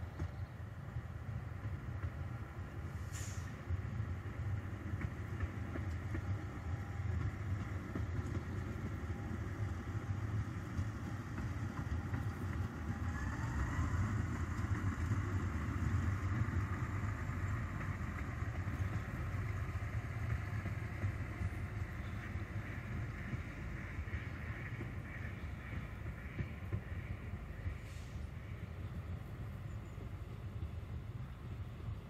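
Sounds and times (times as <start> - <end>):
distant diesel railcar engine rumble: 0.0 - 32.0.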